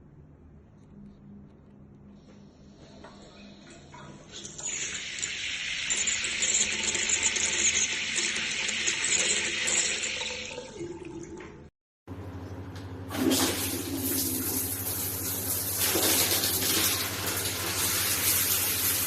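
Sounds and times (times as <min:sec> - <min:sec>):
water running through plumbing: 0:02.4 - 0:11.7, 0:12.5 - 0:19.0.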